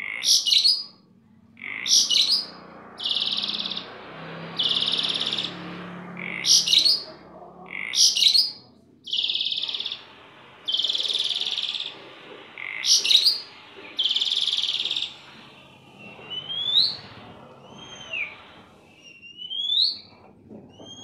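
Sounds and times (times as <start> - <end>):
starling singing: 0.0 - 21.0.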